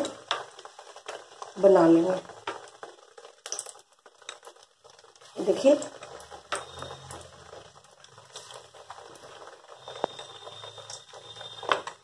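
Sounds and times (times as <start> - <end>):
crackles and clicks of frying: 0.0 - 12.0
potato slices sizzling in oil: 0.0 - 12.0.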